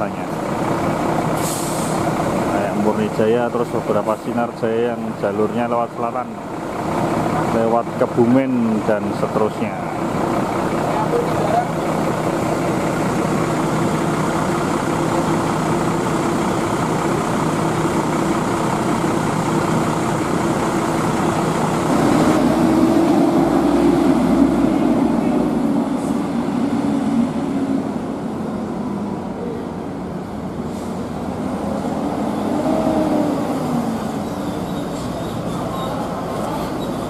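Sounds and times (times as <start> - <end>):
bus engines running: 0.0 - 37.0.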